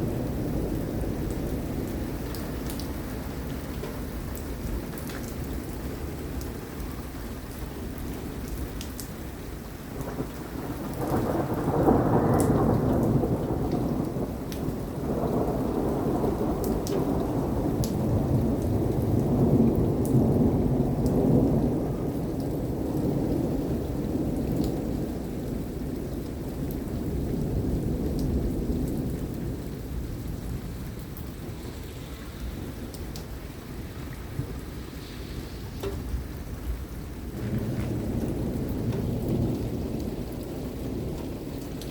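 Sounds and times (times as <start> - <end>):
rolling thunder rumble: 0.0 - 6.6, 9.8 - 41.9
raindrops ticking: 0.0 - 41.9
steady rain: 0.0 - 41.9.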